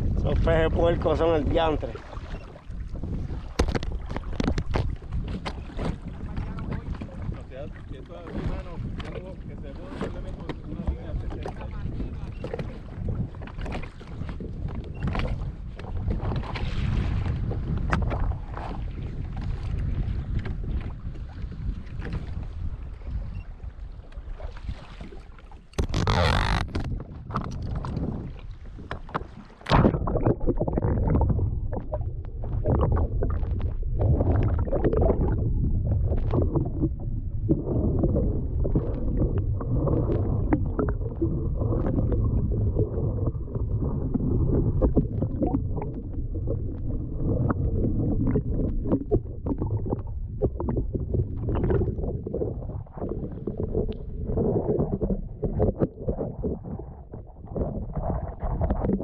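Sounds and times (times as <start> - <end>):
underwater water rumble: 0.0 - 59.0.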